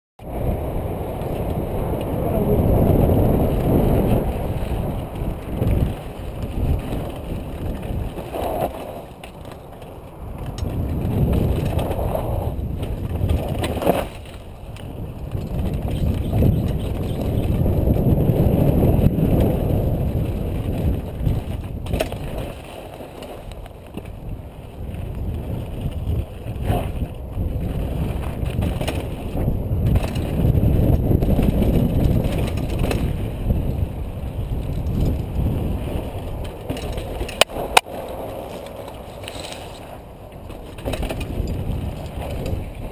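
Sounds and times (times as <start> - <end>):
wind on microphone: 0.2 - 42.9
tyres rolling over dirt and stones: 0.3 - 42.9
bike knocks and rattles on rocks: 3.5 - 42.9.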